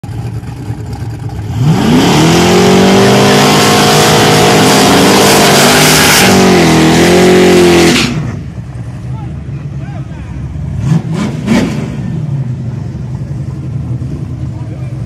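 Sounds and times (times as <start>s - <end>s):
vehicle engine accelerating hard: 0.0s - 15.0s.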